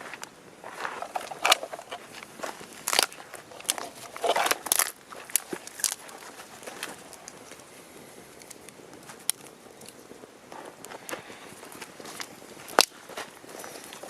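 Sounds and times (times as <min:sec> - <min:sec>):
rustles and snaps: 0:00.0 - 0:07.7, 0:08.3 - 0:14.0
wood fire crackling and popping: 0:00.1 - 0:14.0.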